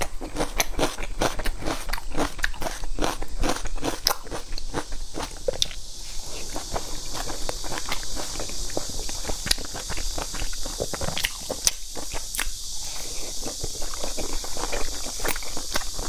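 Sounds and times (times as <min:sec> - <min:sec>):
wet chewing and lip smacks: 0:00.0 - 0:05.8, 0:06.4 - 0:16.0
steady hiss: 0:00.0 - 0:16.0.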